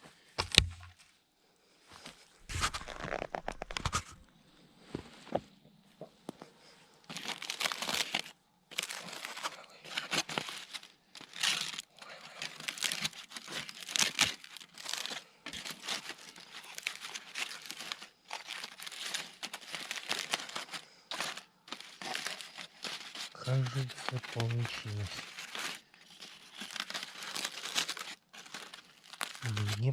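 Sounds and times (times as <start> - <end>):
wrapping crinkling: 2.0 - 4.3, 6.4 - 29.9.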